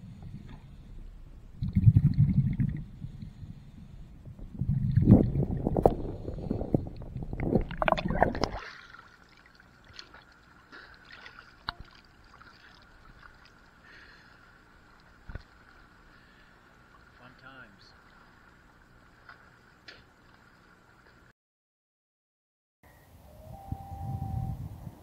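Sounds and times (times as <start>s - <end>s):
underwater bubbling and rumble: 0.0s - 21.0s.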